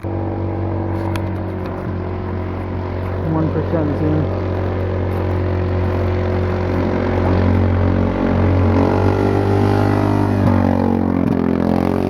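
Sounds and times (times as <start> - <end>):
exhaust pops: 0.0 - 12.0
loud engine driving past: 0.0 - 12.0.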